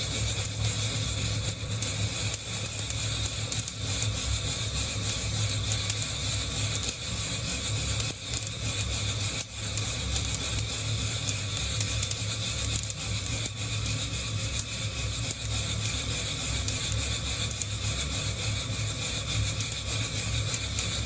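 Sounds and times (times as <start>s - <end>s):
gas burner flame rumbling: 0.0s - 21.0s.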